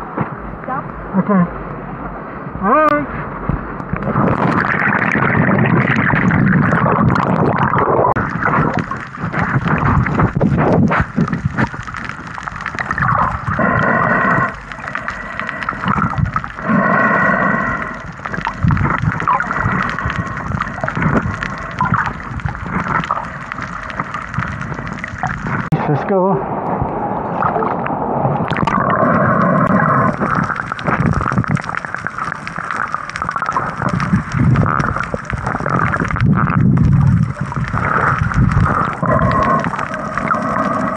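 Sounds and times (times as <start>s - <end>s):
muffled underwater gurgling: 2.6s - 26.0s, 27.0s - 40.9s
clicks and bubbling: 3.8s - 25.8s, 27.4s - 40.9s.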